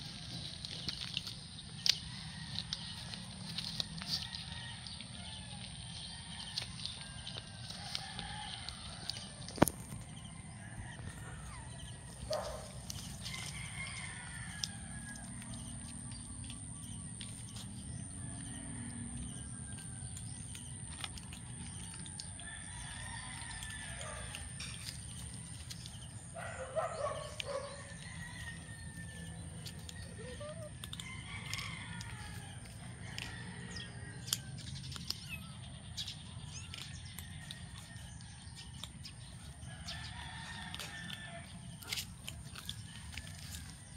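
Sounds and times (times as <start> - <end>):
birds calling and chirping: 0.0 - 43.9.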